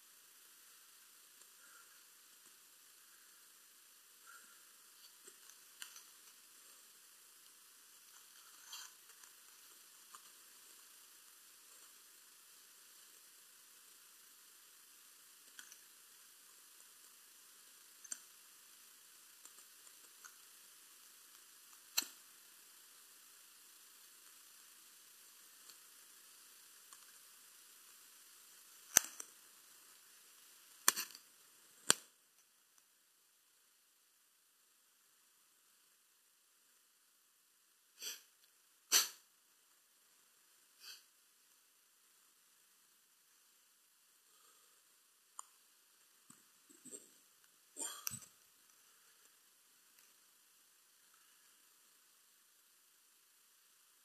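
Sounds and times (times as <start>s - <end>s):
faint crackles: 0.0s - 33.6s, 37.9s - 54.0s
faint steady hiss: 0.0s - 54.0s.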